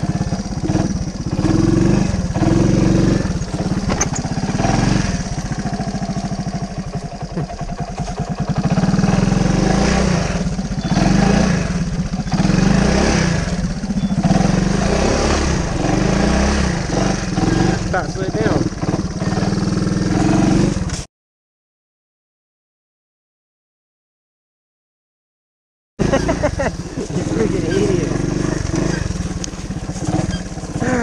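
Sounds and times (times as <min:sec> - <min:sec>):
small engine revving: 0:00.0 - 0:21.1, 0:26.0 - 0:31.0.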